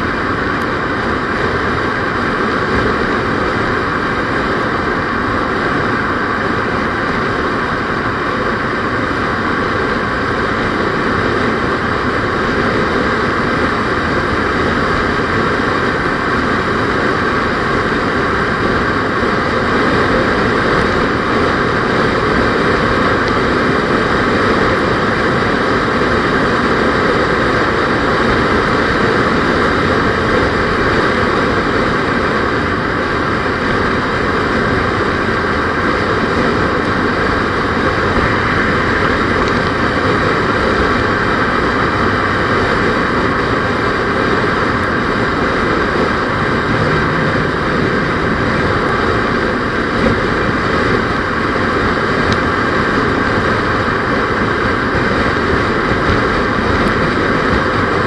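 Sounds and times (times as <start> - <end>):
vehicle road noise: 0.0 - 58.0.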